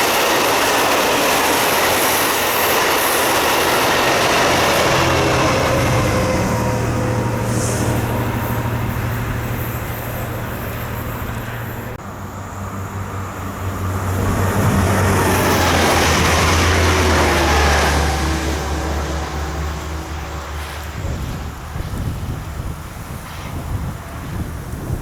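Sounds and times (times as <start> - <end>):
train engine low drone: 0.0 - 25.0
train wheels on rails: 0.0 - 25.0.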